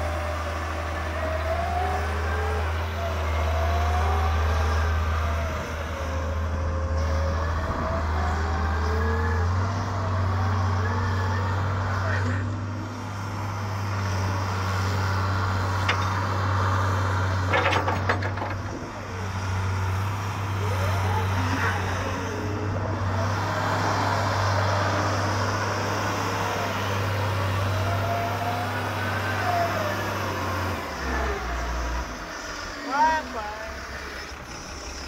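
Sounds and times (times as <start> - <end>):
excavator diesel engine drone: 0.0 - 35.0.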